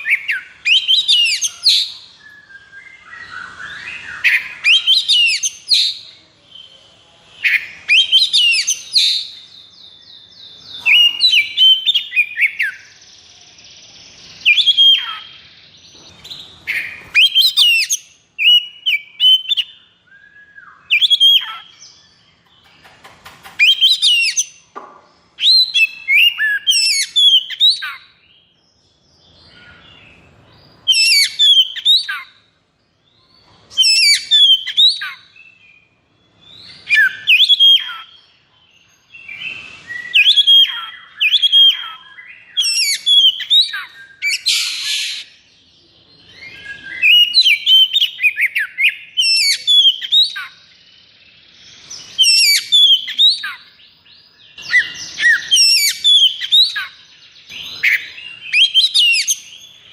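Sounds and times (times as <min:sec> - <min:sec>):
songbird whistling and chattering: 0:00.0 - 0:28.3, 0:30.7 - 0:32.4, 0:33.1 - 0:38.5, 0:39.1 - 0:45.5, 0:46.2 - 0:59.9.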